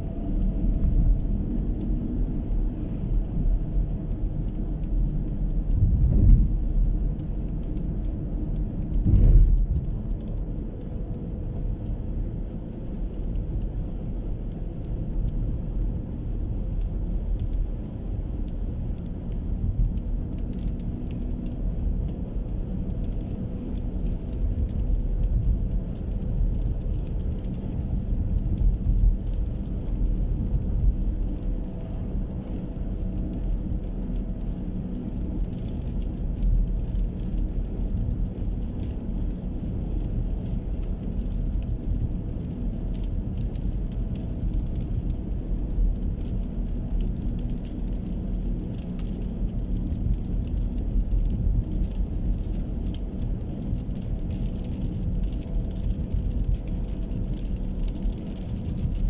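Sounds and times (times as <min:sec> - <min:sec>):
steady low rumble: 0:00.0 - 0:59.0
rain falling: 0:11.4 - 0:59.0.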